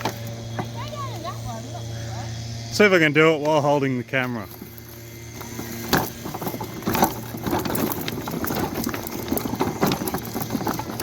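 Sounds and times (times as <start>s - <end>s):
go-kart motor hum: 0.0s - 11.0s
wheels and chassis rattling: 0.0s - 11.0s.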